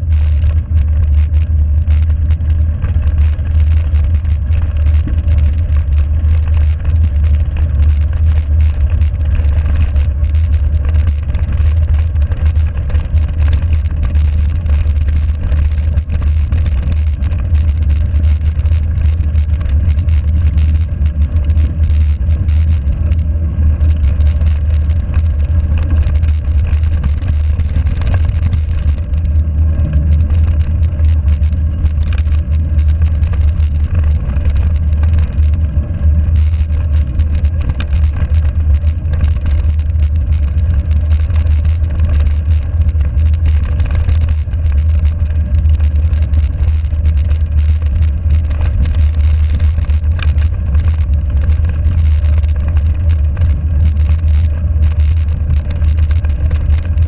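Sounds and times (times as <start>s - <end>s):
bike tyres rolling on gravel: 0.0s - 57.0s
small rattles and clicks: 0.0s - 57.0s
wind rumble on microphone: 0.0s - 57.0s.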